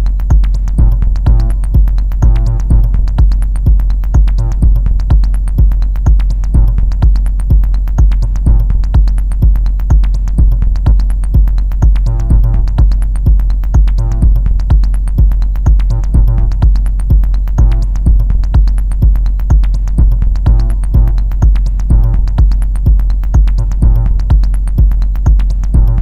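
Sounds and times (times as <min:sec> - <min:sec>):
heavy kick drum: 0:00.0 - 0:26.0
ticking hi-hats: 0:00.0 - 0:26.0.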